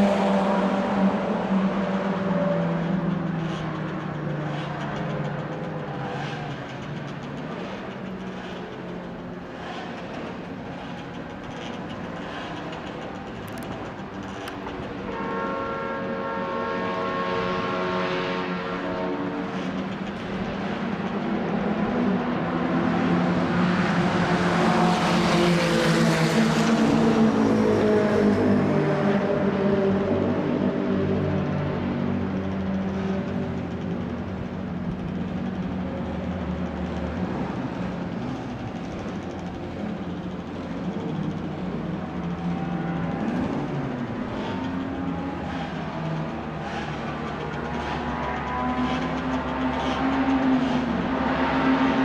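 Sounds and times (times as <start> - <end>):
racing car engine running hard: 0.0 - 52.0.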